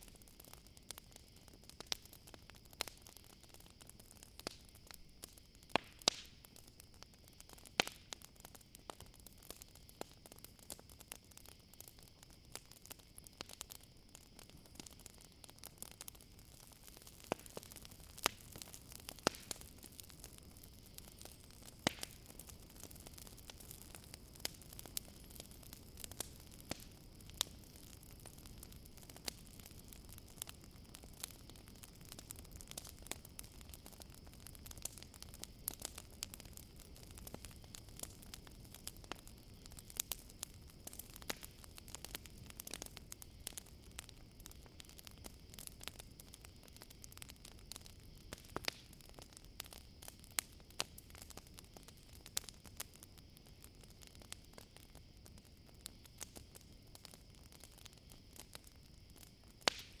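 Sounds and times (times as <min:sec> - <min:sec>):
campfire crackling: 0:00.0 - 1:00.0
crickets chirping: 0:00.0 - 1:00.0.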